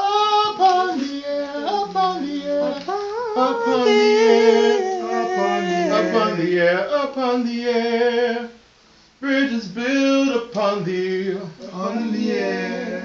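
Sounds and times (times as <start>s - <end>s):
voices singing slow melody: 0.0s - 13.0s.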